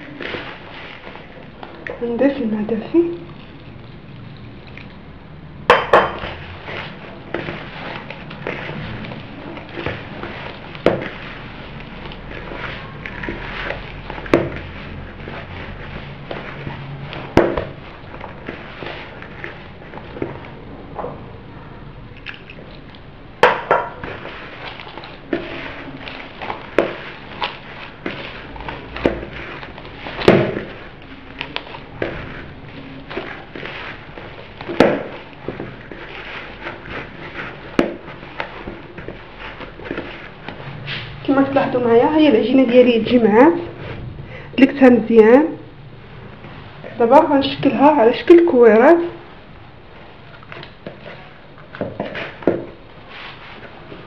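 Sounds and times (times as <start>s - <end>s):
hands mixing dough: 0.0s - 54.0s.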